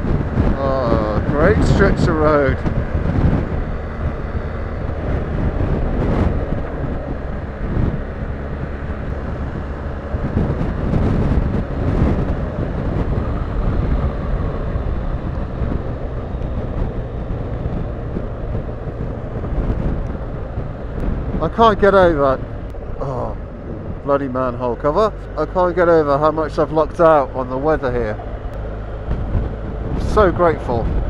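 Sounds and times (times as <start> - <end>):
motorcycle engine running: 0.0 - 31.0
wind rush on microphone: 0.0 - 31.0.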